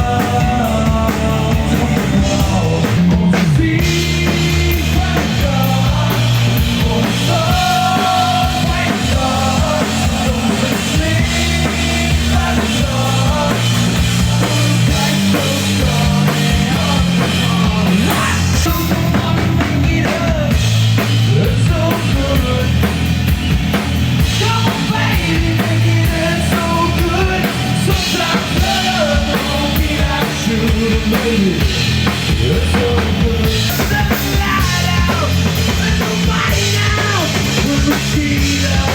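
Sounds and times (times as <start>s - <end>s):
drum kit kick and snare: 0.0s - 38.9s
rock band playing: 0.0s - 38.9s.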